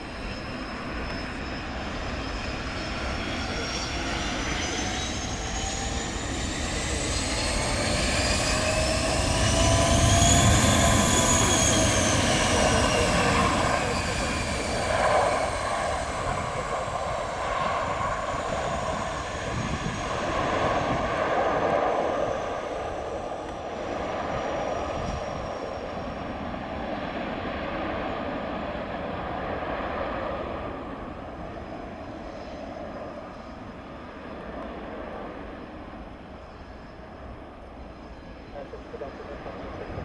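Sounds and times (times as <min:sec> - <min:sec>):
jet engines roaring with whine: 0:00.0 - 0:40.0
jet taxiing: 0:00.0 - 0:40.0.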